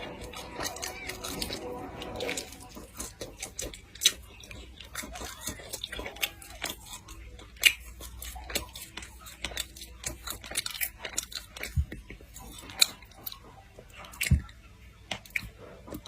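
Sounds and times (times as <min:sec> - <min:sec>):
person chewing with mouth clicks: 0:00.0 - 0:16.0.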